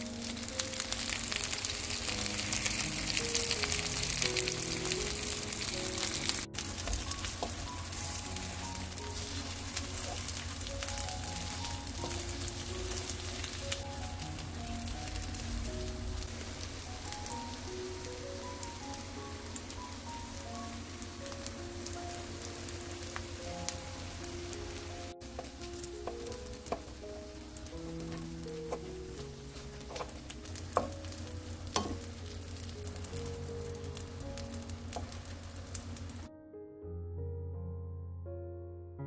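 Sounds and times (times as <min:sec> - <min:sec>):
leaves sizzling in hot oil: 0:00.0 - 0:36.3
light background music: 0:00.0 - 0:39.0.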